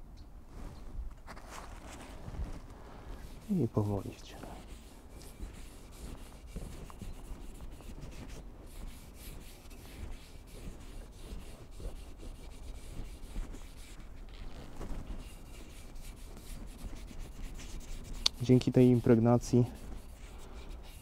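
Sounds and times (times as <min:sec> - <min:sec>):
cloth rubbing on wood: 0:01.3 - 0:21.0.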